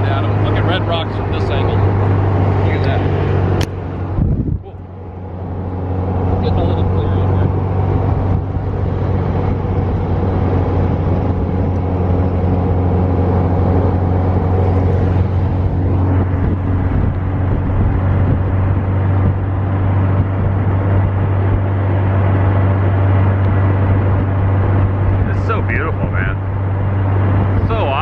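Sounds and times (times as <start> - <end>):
dune buggy engine running: 0.0 - 28.0
road noise: 0.0 - 28.0
wind noise: 0.0 - 28.0.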